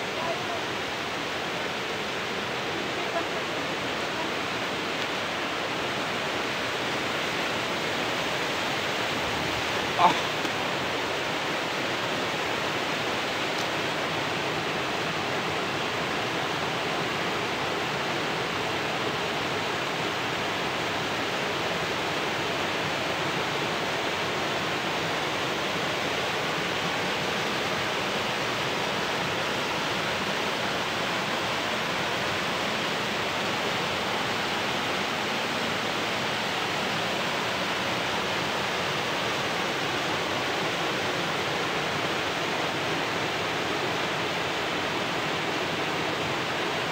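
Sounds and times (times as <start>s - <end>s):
small waterfall rushing: 0.0s - 46.9s.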